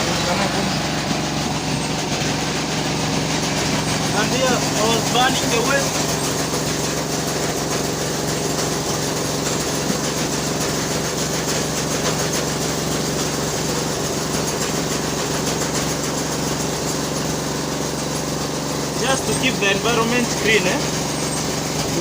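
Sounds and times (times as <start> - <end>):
small engine humming: 0.0 - 22.0.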